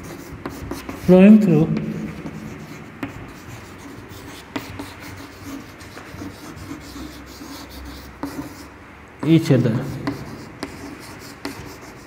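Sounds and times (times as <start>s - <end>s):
chalk scratching on chalkboard: 0.0s - 8.8s, 9.8s - 12.0s
chalk tapping on board: 0.0s - 12.0s.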